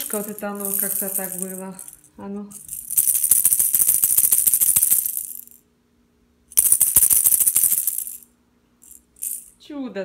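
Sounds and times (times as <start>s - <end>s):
plastic rattle ball shaken: 0.0s - 5.6s, 6.5s - 9.6s.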